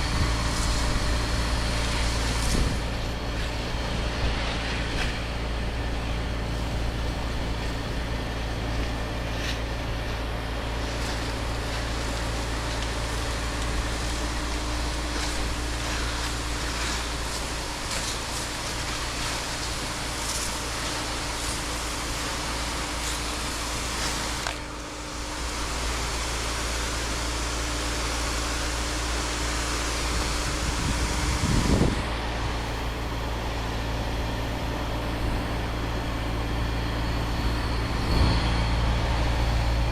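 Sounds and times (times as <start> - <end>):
pressure washer engine and pump: 0.0 - 39.9
spraying water hiss: 0.0 - 39.9.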